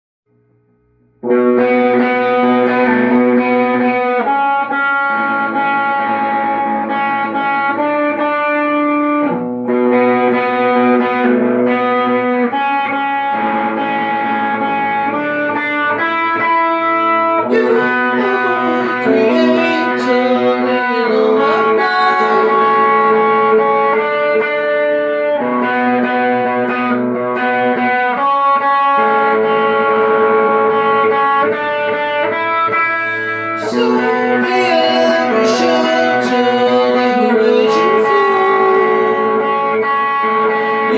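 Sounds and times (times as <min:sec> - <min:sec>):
guitar playing sustained chords: 0:01.1 - 0:40.9.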